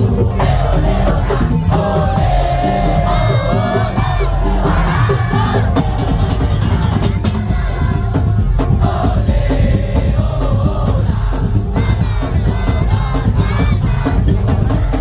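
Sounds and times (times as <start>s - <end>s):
dense percussion: 0.0s - 15.0s
heavy drums: 0.0s - 15.0s.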